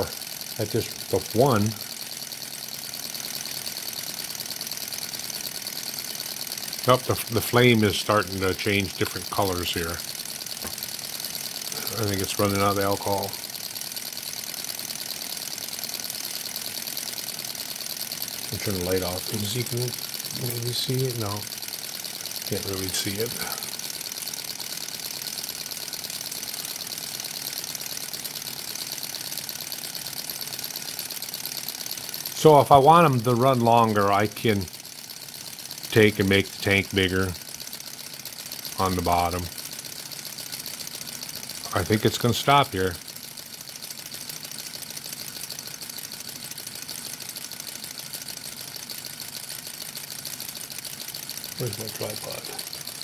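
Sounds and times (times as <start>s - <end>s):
model engine clattering: 0.0s - 53.0s.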